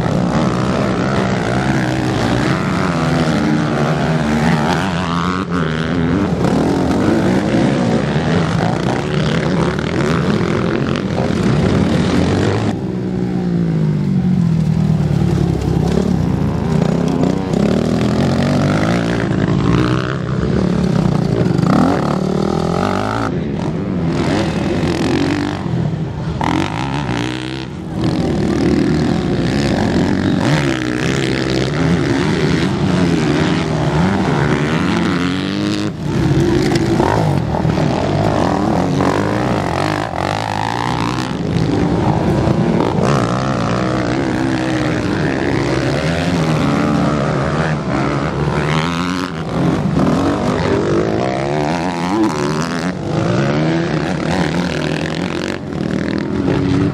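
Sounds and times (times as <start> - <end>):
motocross engines revving: 0.0 - 56.9.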